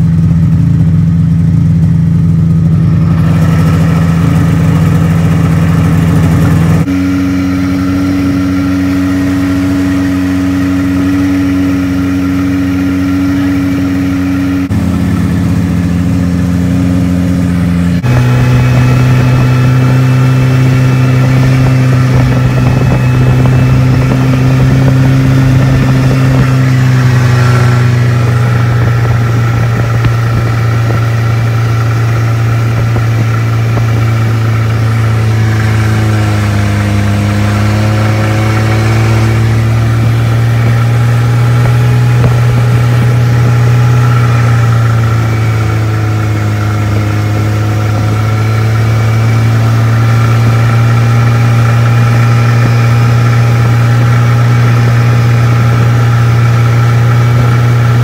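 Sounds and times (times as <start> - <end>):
snowmobile engines running: 0.0 - 58.0.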